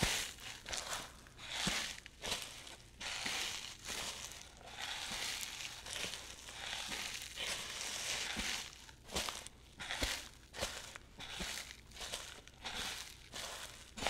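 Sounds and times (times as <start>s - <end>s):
footsteps crunching on sand: 0.0s - 14.0s.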